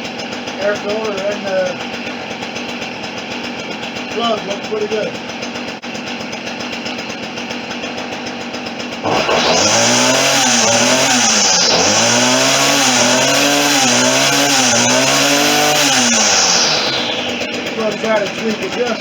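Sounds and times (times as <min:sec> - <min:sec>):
string trimmer engine revving: 0:00.0 - 0:19.0.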